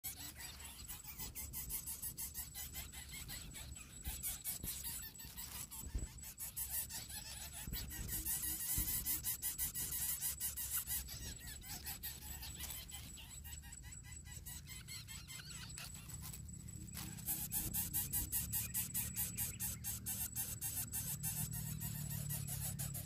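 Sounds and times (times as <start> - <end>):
nestlings squeaking: 0.0 - 23.0.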